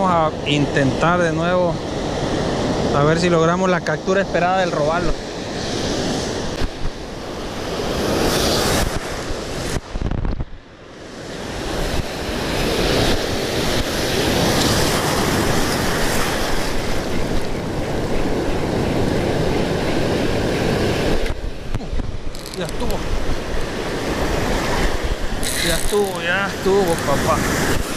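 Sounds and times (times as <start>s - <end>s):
ocean surf breaking: 0.0s - 27.9s
wind buffeting microphone: 0.0s - 27.9s.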